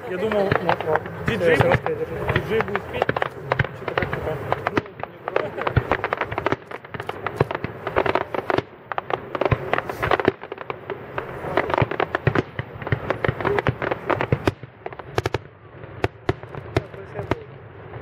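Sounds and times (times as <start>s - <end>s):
fireworks bursting with bangs: 0.0s - 18.0s.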